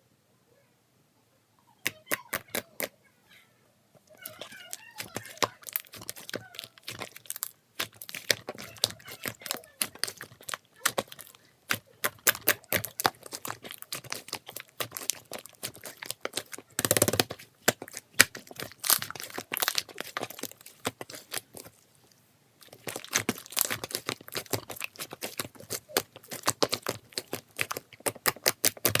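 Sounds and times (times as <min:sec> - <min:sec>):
crinkling and crackling: 0:04.0 - 0:29.0.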